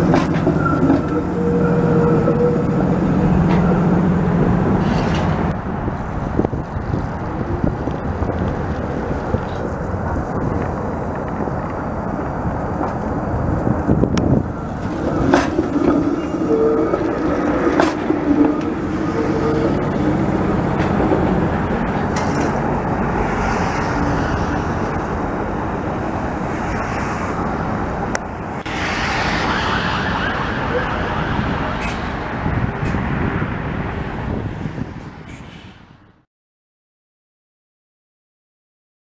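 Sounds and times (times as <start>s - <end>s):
steady rushing noise: 0.0s - 36.2s
streetcar whine: 0.0s - 36.2s
wheels rumbling on rails: 0.0s - 36.2s.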